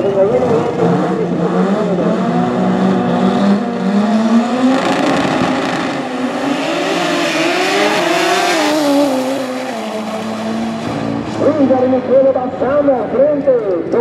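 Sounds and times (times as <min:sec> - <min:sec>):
turbocharged car engines revving: 0:00.0 - 0:14.0.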